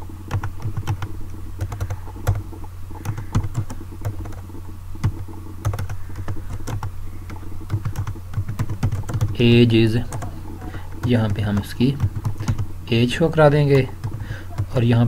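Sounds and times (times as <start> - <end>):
steady low hum: 0.0 - 15.0
keyboard keys clicking: 0.3 - 4.4, 5.0 - 15.0.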